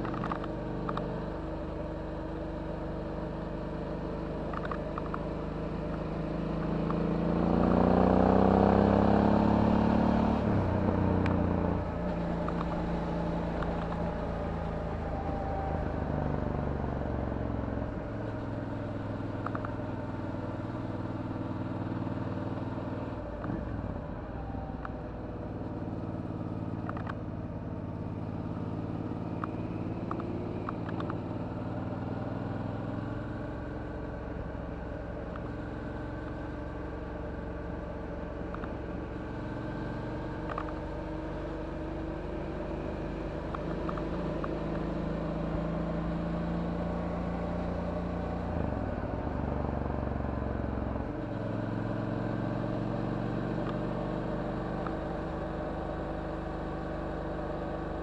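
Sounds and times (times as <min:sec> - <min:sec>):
motorcycle engine while riding: 0:00.0 - 0:58.0.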